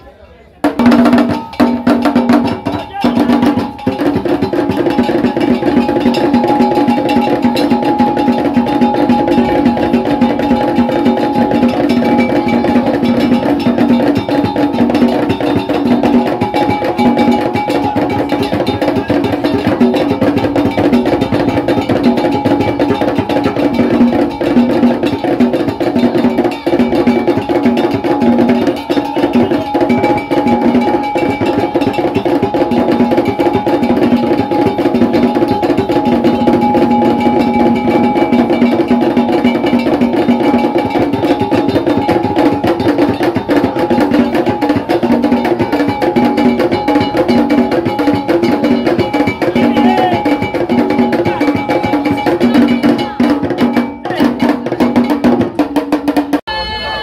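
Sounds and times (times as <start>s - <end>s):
ritual drumming and percussion: 0.0s - 57.0s.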